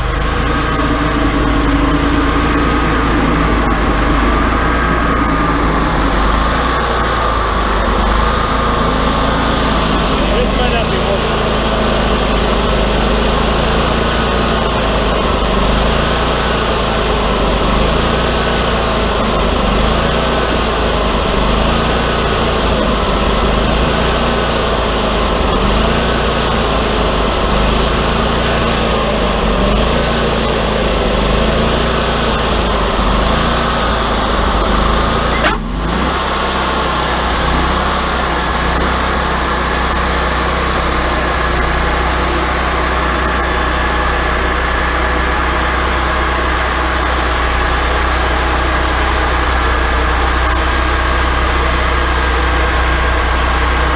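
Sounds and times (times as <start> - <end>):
sawmill running: 0.0 - 53.9.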